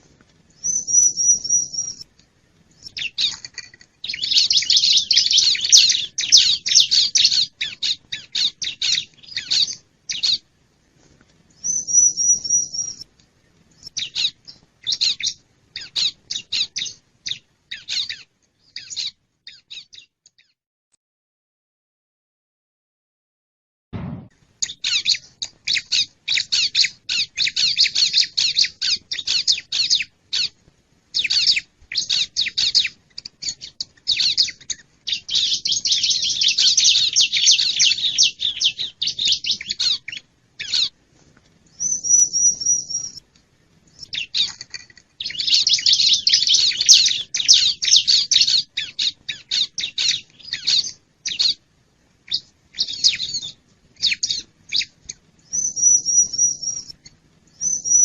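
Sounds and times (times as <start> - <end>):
high bird trill: 0.6 - 2.0, 2.8 - 10.4, 11.6 - 13.0, 13.8 - 20.6, 24.6 - 30.6, 31.2 - 41.0, 41.8 - 43.2, 44.0 - 51.6, 52.3 - 54.9, 55.5 - 57.0, 57.6 - 58.0
bird chattering song: 0.6 - 2.1, 2.8 - 10.4, 11.6 - 13.0, 13.8 - 20.6, 24.6 - 30.6, 31.2 - 41.0, 41.8 - 43.2, 44.0 - 51.6, 52.3 - 58.0.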